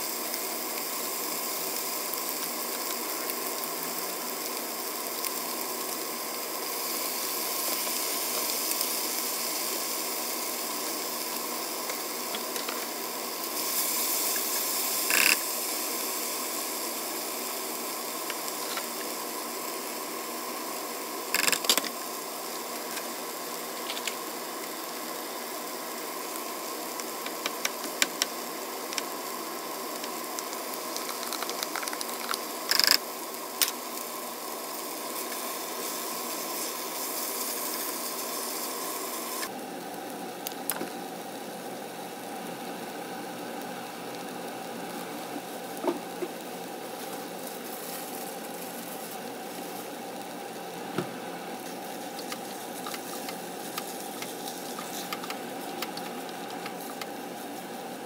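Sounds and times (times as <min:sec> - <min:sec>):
food sizzling in a pan: 0:00.0 - 0:58.0.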